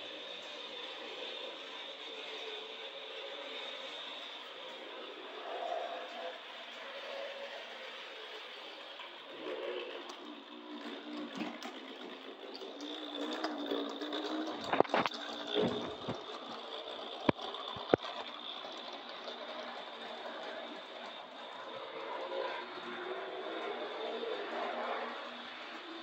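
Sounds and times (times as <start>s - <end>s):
model train motor whirring: 0.0s - 26.0s.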